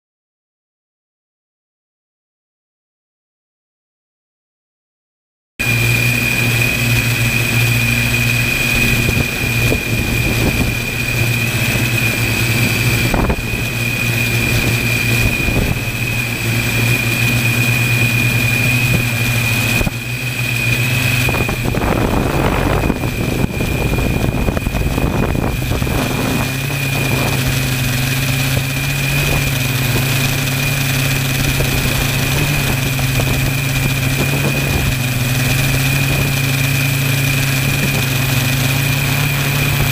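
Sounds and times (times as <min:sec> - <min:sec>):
high whine: 0:05.6 - 0:39.9
rc helicopter rotor hum: 0:05.6 - 0:39.9.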